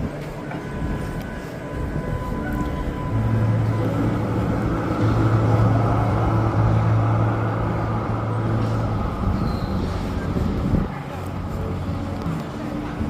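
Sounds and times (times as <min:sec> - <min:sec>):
large vehicle engine humming: 0:00.0 - 0:13.0
road noise: 0:00.0 - 0:13.0.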